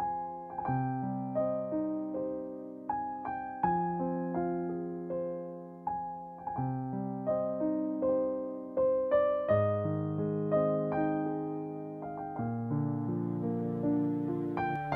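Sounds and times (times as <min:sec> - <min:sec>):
gentle piano music: 0:00.0 - 0:14.9.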